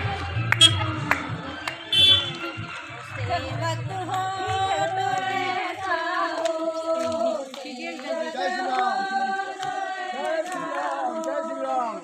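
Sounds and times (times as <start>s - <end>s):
women singing together: 0.0s - 12.0s
hand claps: 0.4s - 2.9s, 4.0s - 11.4s.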